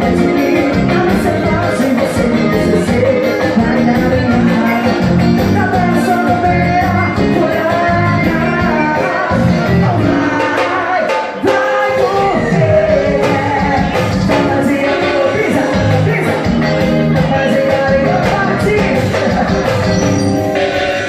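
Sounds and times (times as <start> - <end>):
forro music with singing: 0.0 - 21.0.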